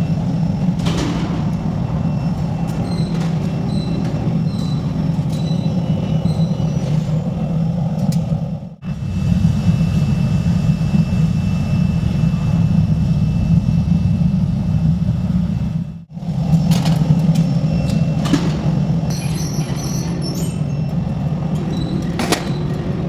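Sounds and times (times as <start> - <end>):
factory machinery low drone: 0.0 - 23.0.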